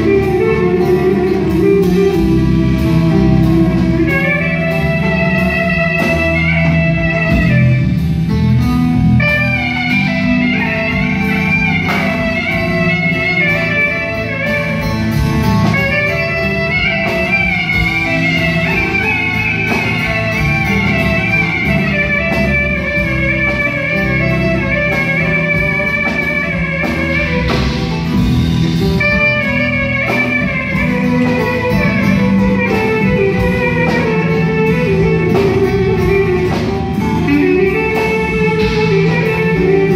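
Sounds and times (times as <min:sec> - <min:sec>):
electric bass: 0:00.0 - 0:39.9
folk band playing: 0:00.0 - 0:39.9.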